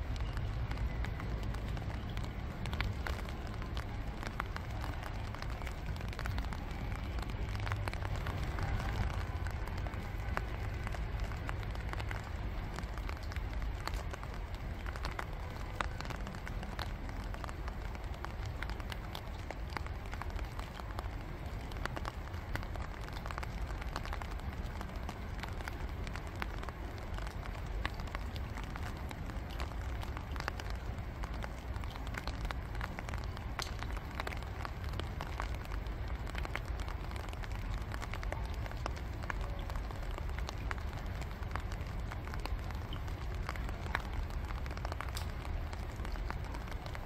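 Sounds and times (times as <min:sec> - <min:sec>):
raindrops ticking on water: 0:00.0 - 0:47.0.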